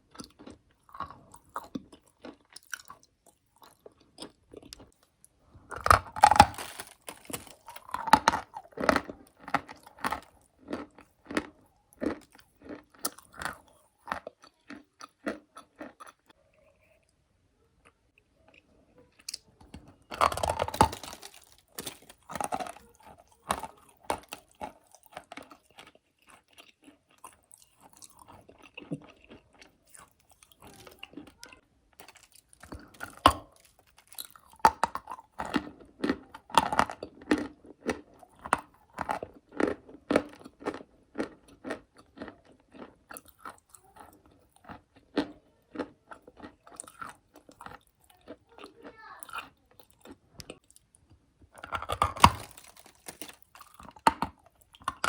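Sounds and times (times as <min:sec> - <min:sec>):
crunching and chewing chalk: 0:00.0 - 0:55.0.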